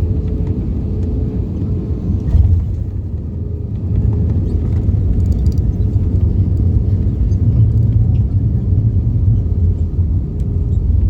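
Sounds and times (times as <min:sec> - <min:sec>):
vehicle interior rumble: 0:00.0 - 0:11.0.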